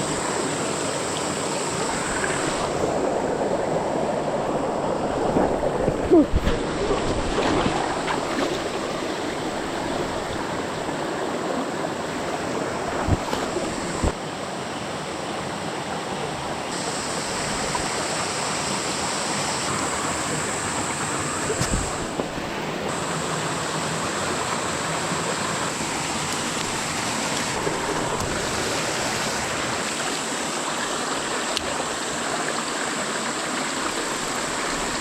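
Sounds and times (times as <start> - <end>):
creek water running over rocks: 0.0 - 35.0.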